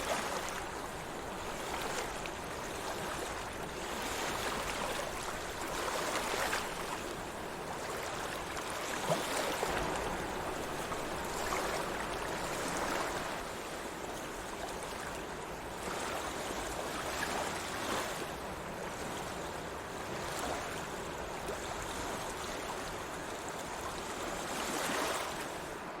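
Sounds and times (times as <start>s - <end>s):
sea water lapping: 0.0s - 26.0s.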